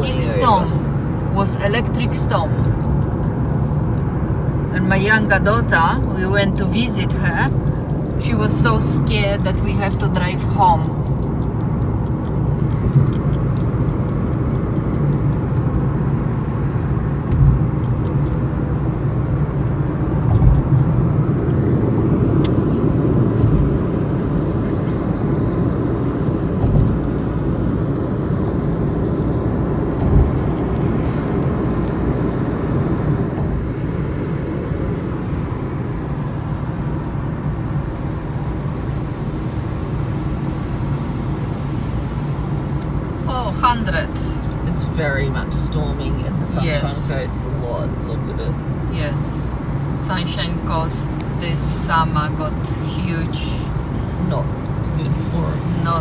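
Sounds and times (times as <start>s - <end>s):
car tyre and engine rumble: 0.0s - 56.0s.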